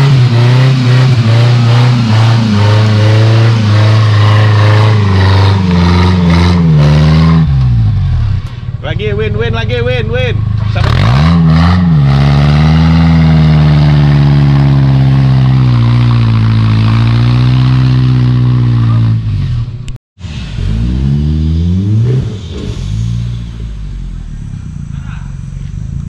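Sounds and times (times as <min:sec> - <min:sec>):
engine revving hard: 0:00.0 - 0:08.2, 0:09.7 - 0:19.3, 0:20.3 - 0:24.2
distant engine revving: 0:00.0 - 0:19.7, 0:20.3 - 0:26.0.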